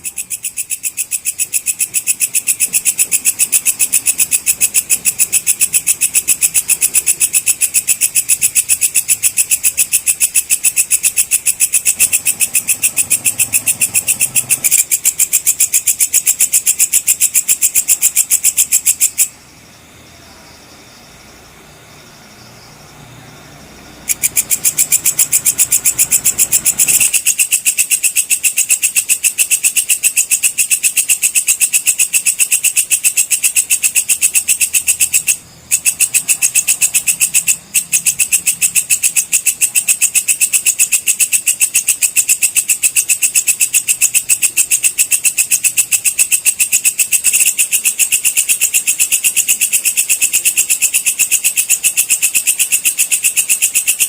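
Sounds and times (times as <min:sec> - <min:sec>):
insect high pulsed trill: 0:00.0 - 0:54.0.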